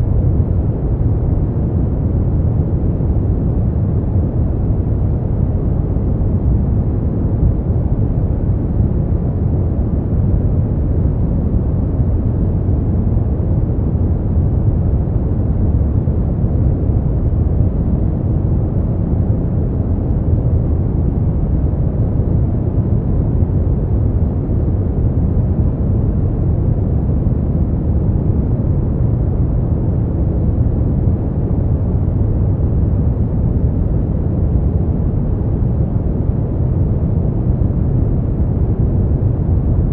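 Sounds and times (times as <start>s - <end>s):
deep rumbling noise: 0.0s - 39.9s.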